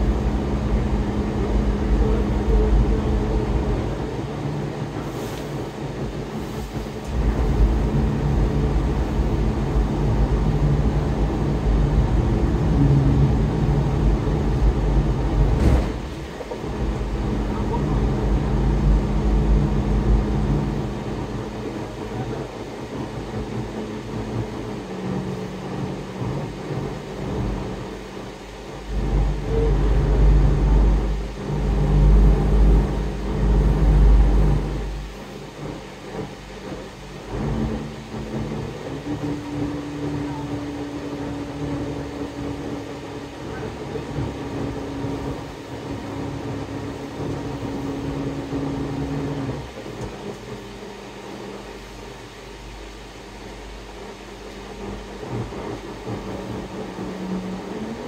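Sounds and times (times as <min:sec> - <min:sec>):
bus engine and road noise: 0:00.0 - 0:58.0
deep rumble: 0:00.0 - 0:58.0.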